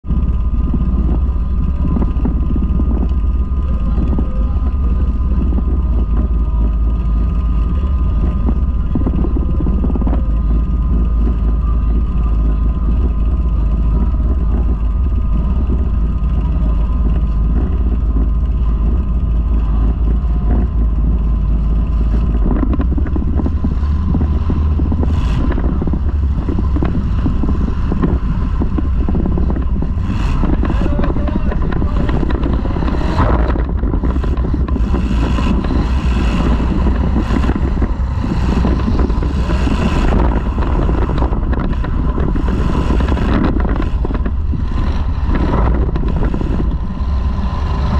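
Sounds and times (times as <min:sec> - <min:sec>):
car engines rumbling: 0:00.0 - 0:47.9.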